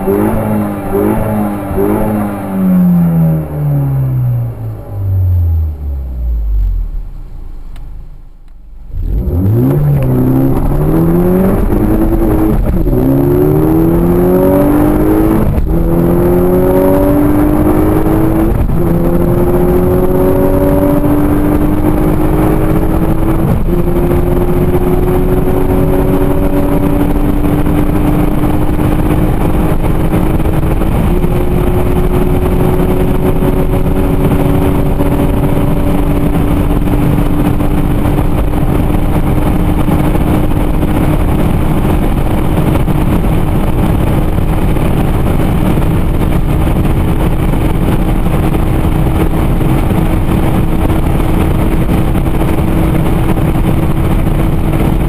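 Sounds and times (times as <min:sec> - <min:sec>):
car engine at full throttle: 0:00.0 - 0:55.0
wind and road noise: 0:00.0 - 0:55.0.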